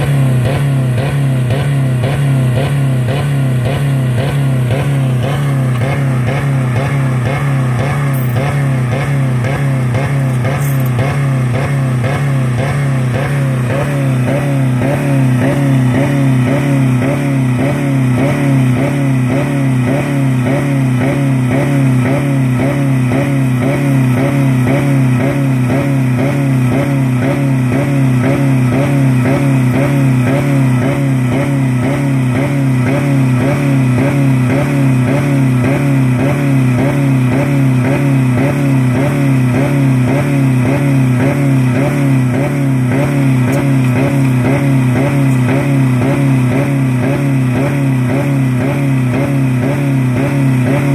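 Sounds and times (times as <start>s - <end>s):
engine pulsing on rev limiter: 0.0s - 50.9s.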